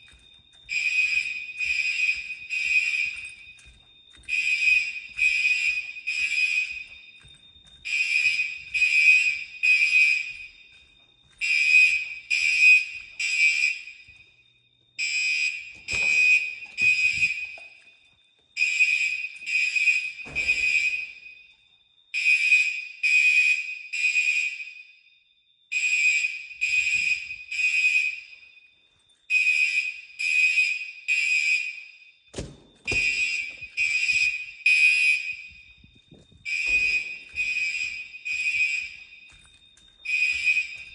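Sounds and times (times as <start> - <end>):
fire alarm horn blasts: 0.0 - 40.9.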